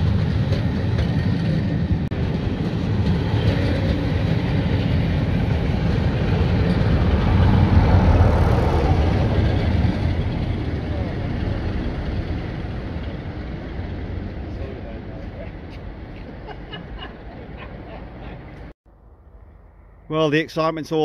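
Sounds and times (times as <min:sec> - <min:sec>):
train wheels rumbling on rail: 0:00.0 - 0:18.7.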